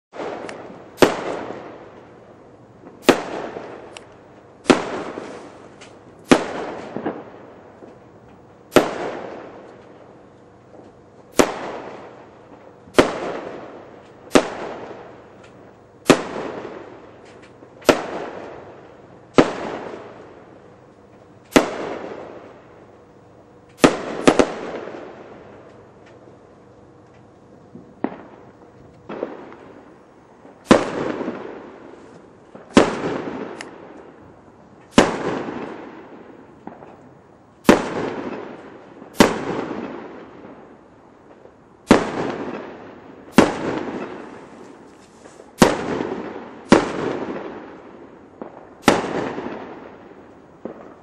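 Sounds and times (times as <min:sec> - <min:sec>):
fireworks bangs: 0:00.1 - 0:02.2, 0:02.8 - 0:23.0, 0:23.7 - 0:26.2, 0:27.1 - 0:51.0.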